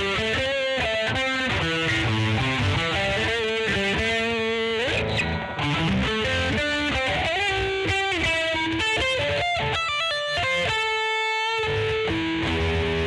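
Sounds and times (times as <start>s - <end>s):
electric guitar lead lines: 0.0s - 13.0s.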